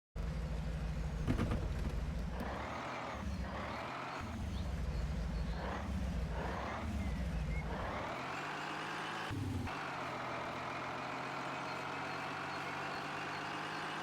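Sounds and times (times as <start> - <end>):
truck engine idling: 0.2 - 8.4, 9.4 - 14.0.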